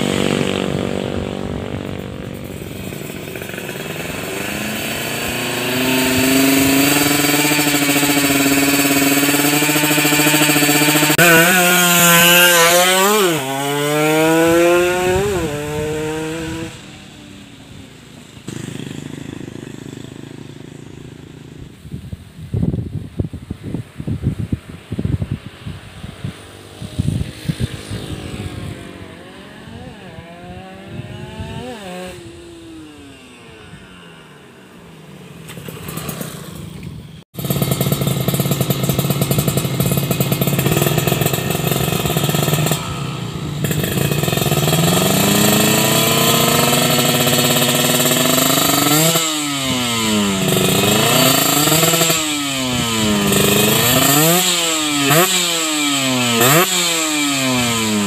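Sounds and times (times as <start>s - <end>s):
distant motorcycle passing: 0.0s - 22.8s, 23.7s - 58.0s
motorcycle engine idling and revving: 0.0s - 58.0s.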